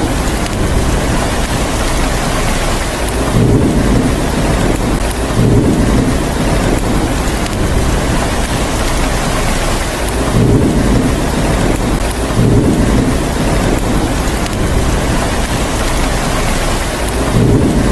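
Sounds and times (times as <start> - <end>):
low rumbling thunder: 0.0 - 17.9
steady rain: 0.0 - 17.9.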